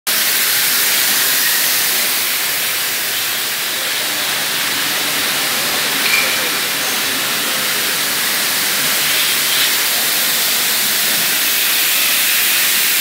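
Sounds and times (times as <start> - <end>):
factory machinery hissing: 0.1 - 13.0.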